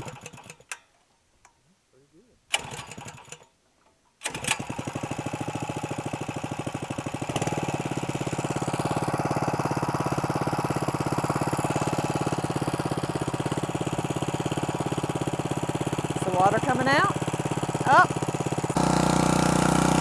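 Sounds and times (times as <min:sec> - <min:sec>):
small water pump engine running: 0:00.0 - 0:00.6, 0:04.2 - 0:20.0.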